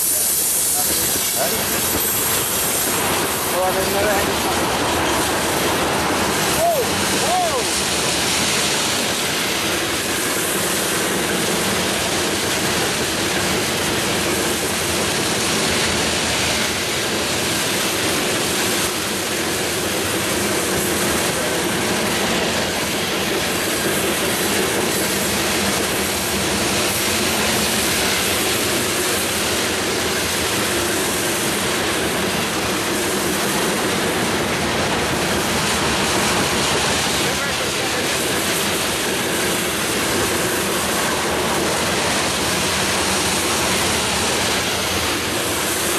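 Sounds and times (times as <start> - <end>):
train wheels on rails: 0.0 - 45.9.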